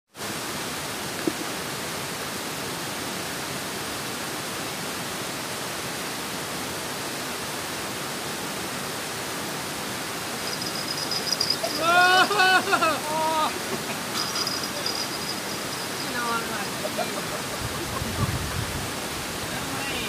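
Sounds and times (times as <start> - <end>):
water rushing through a weir: 0.2 - 20.0.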